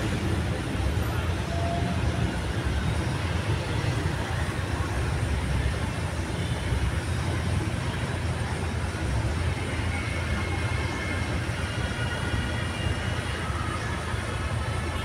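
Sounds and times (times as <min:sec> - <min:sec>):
low rumble of street noise: 0:00.0 - 0:15.0.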